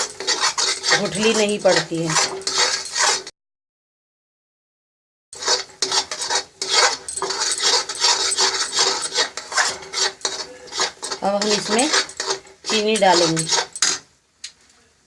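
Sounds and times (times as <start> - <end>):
utensil stirring and scraping a pan: 0.0 - 3.3, 5.4 - 14.2.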